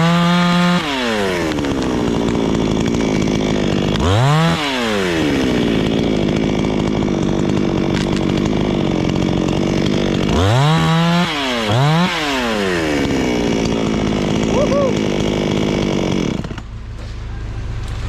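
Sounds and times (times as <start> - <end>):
chainsaw engine idling and revving: 0.0 - 17.0.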